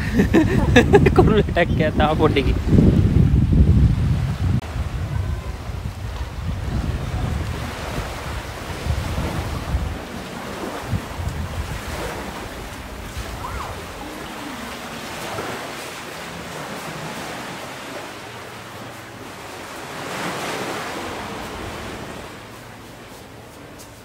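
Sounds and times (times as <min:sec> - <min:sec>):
small waves washing onto beach: 0:00.0 - 0:24.0.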